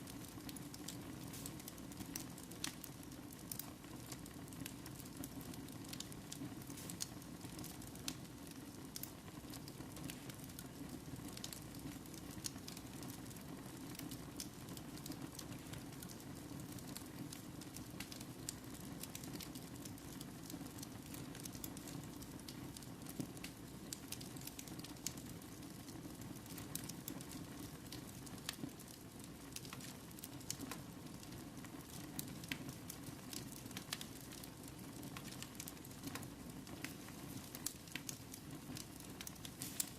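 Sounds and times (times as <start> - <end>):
low hiss: 0.0 - 39.9
wood fire crackling and popping: 0.0 - 39.9.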